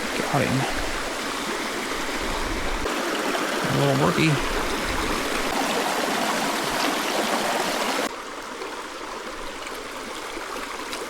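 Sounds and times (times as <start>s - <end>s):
creek water rushing over rocks: 0.0s - 11.0s.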